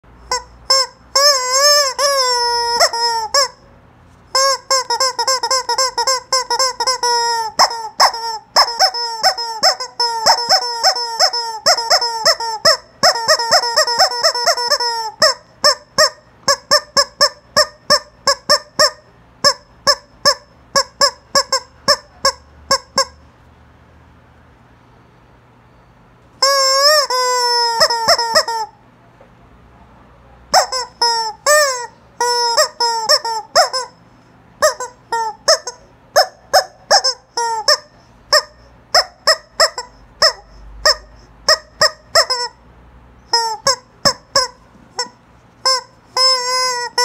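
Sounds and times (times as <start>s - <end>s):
rubber chicken toy squawking: 0.2s - 23.3s, 26.4s - 28.8s, 30.5s - 47.0s.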